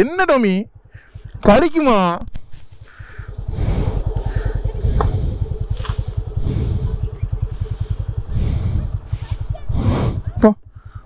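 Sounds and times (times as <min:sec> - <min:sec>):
motorcycle engine idling: 0:00.7 - 0:11.0.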